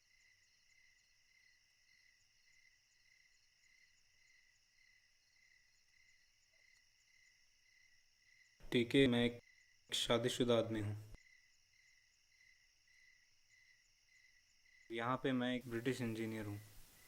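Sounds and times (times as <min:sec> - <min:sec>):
faint crickets chirping: 0:00.0 - 0:17.0.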